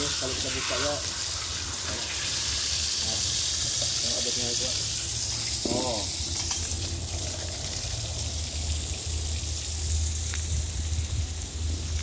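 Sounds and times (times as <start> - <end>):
water gushing from broken pipe: 0.0 - 12.0.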